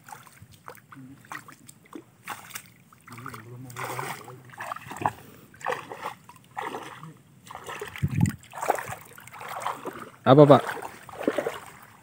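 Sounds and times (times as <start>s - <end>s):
footsteps wading through water: 0.0s - 12.0s
heavy splash in water: 2.3s - 12.0s.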